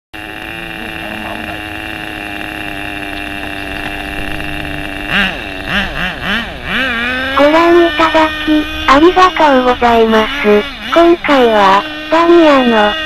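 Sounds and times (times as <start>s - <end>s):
model car engine idling and revving: 0.2s - 13.0s.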